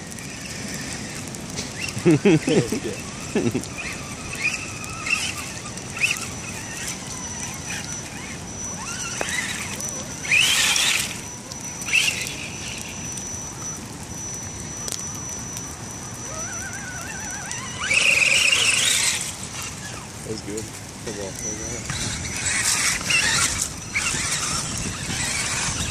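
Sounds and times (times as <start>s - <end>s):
toy truck electric motors whining: 0.0s - 25.9s.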